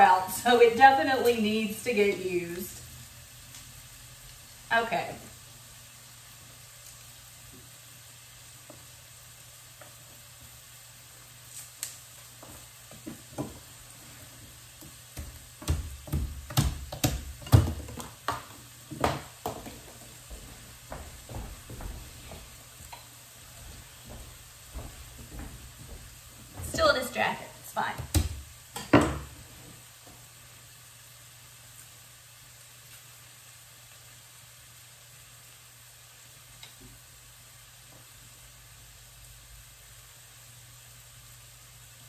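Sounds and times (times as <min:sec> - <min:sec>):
vegetables sizzling in pan: 0:00.0 - 0:42.0.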